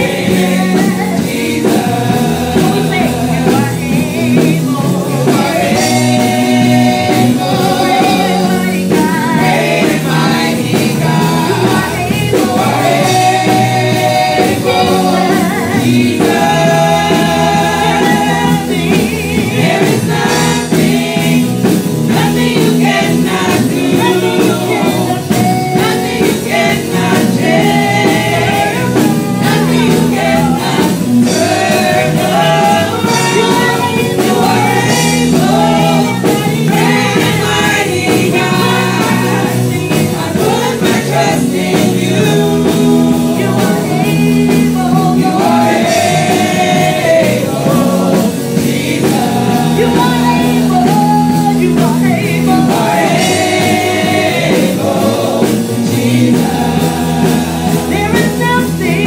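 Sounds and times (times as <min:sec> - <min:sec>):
choir singing worship song: 0:00.0 - 0:59.0
instrumental backing music: 0:00.0 - 0:59.0.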